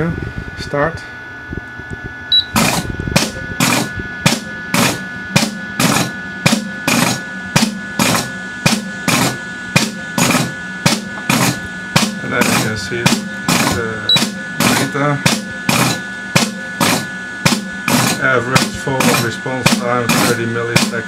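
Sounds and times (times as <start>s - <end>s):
pneumatic flaps clicking: 2.3s - 21.0s.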